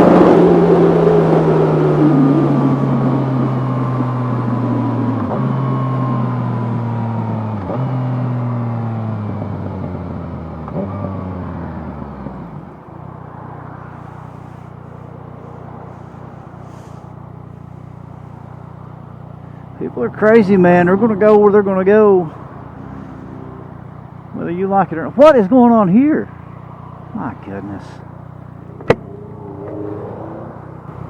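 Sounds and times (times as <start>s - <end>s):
motorcycle engine on the overrun: 0.0s - 31.0s.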